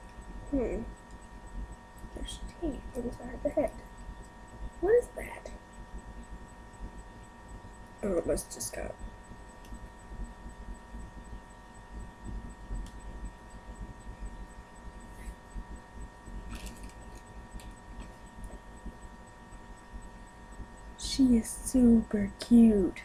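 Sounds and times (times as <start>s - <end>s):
electrical hum with low rumble: 0.0s - 23.0s.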